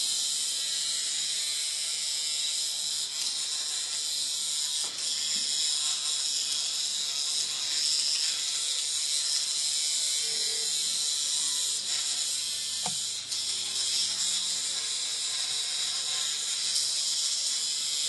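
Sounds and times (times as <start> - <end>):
vibrating toy buzzing on tiles: 0.0 - 18.0.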